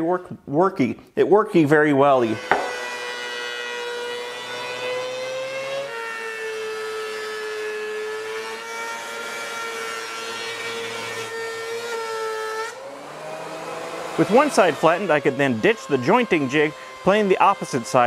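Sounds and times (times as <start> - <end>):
thickness planer whining: 2.1 - 18.0.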